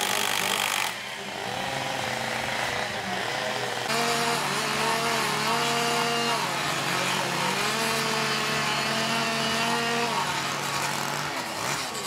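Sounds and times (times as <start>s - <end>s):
power tool motor whine on wood: 0.0s - 12.0s.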